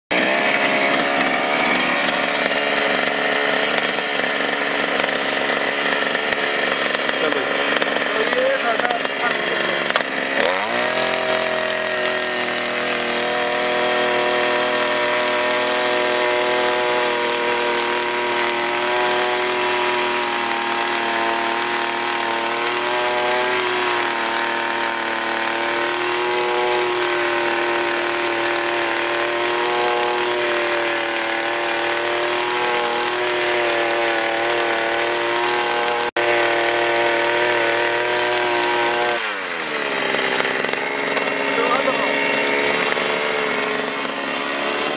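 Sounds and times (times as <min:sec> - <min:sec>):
earth auger engine running: 0:00.1 - 0:44.9.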